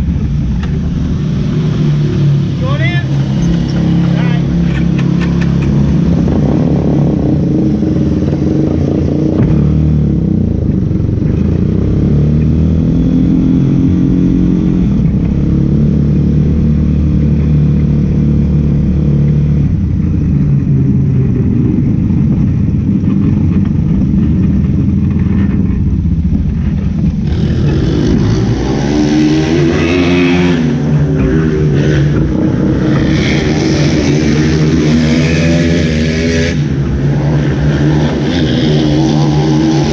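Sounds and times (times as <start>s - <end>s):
race car engines running hard: 0.0s - 39.9s.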